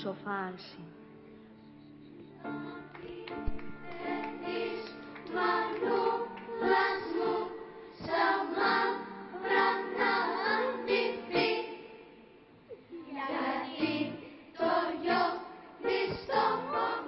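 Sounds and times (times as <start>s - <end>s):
children's choir singing: 2.3s - 12.2s, 13.0s - 17.0s.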